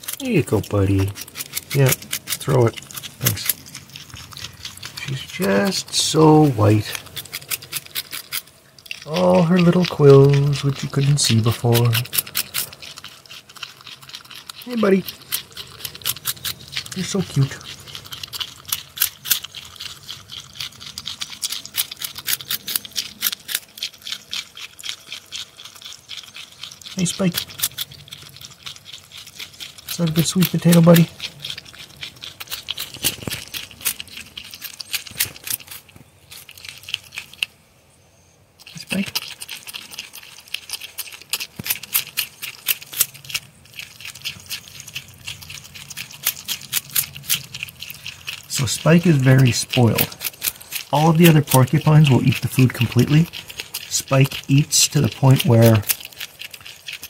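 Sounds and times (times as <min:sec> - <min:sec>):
animal gnawing with crunching clicks: 0:00.0 - 0:37.7, 0:38.6 - 0:57.0.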